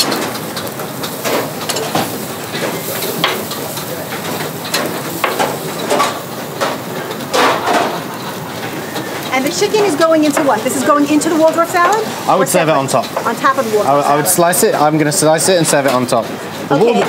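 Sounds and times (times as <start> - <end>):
kitchen utensils clicking: 0.0 - 13.9
meat sizzling on a grill: 0.0 - 17.0.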